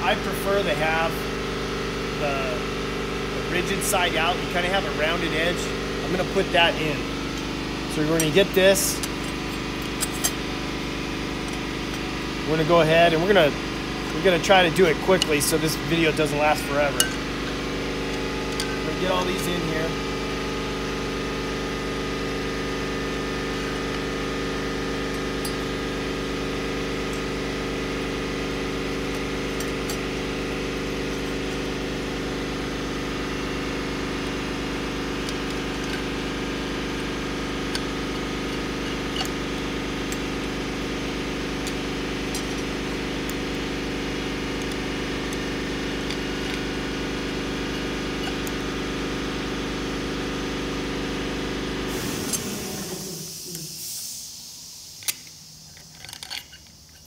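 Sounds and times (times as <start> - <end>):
air compressor running: 0.0 - 57.0.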